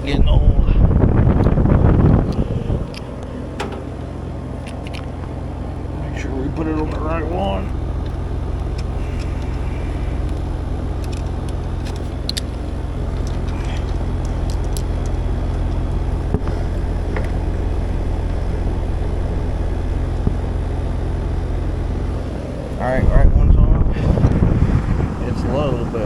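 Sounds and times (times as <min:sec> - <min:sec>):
air conditioner droning: 0:00.0 - 0:26.0.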